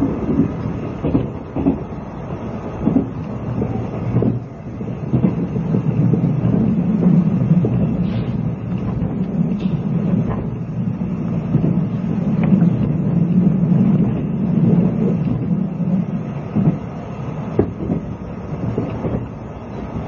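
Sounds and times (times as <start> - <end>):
train low rumble: 0.0 - 20.0
wheels clacking over rail joints: 0.0 - 20.0.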